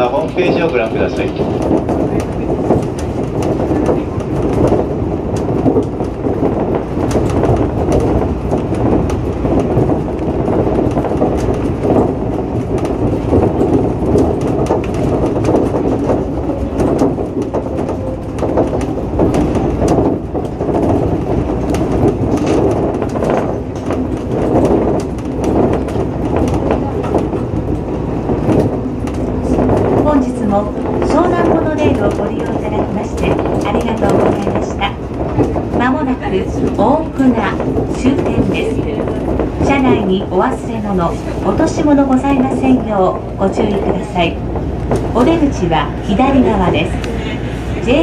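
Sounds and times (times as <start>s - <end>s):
monorail running rumble: 0.0s - 48.0s.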